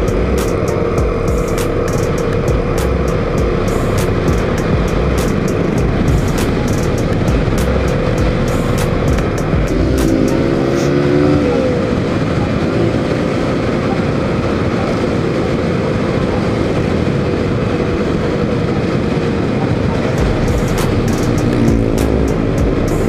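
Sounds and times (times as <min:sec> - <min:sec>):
wind rush on microphone: 0:00.0 - 0:22.9
motorcycle engine drone: 0:00.0 - 0:23.0.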